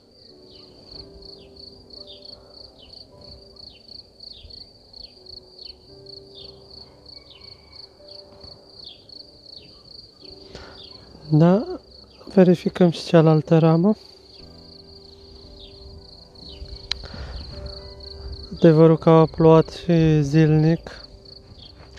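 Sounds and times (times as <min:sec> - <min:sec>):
cricket chirping: 0:00.0 - 0:21.9.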